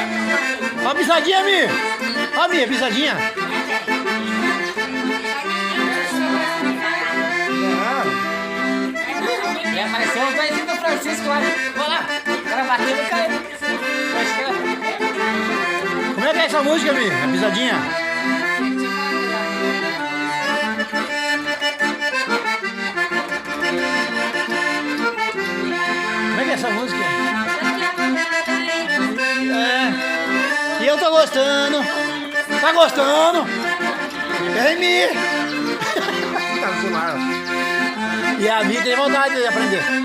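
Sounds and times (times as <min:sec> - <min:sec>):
accordion playing chords: 0:00.0 - 0:40.0.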